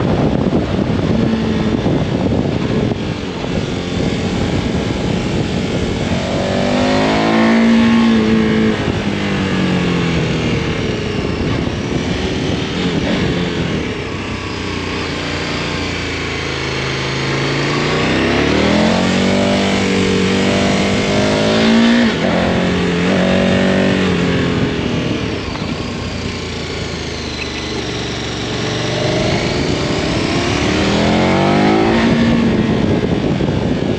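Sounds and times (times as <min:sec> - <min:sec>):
wind rush: 0:00.0 - 0:27.1, 0:27.8 - 0:33.9
motorcycle engine accelerating: 0:00.0 - 0:33.9.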